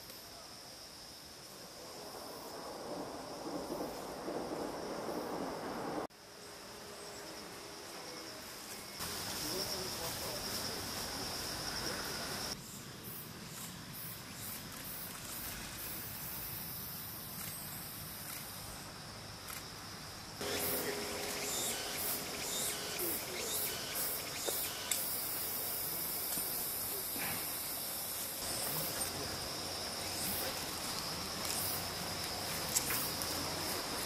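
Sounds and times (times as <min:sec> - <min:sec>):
insects trilling: 0:00.0 - 0:34.0
insects chirping sharply: 0:00.2 - 0:34.0.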